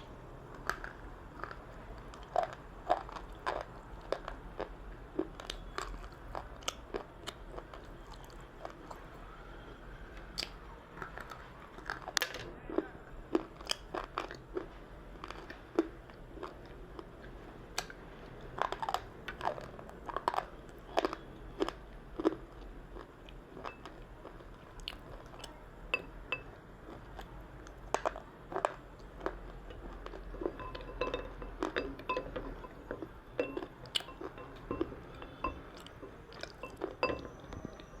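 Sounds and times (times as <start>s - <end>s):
crunchy biting and chewing: 0.4s - 9.1s, 10.4s - 17.5s, 18.4s - 25.6s, 26.4s - 38.0s.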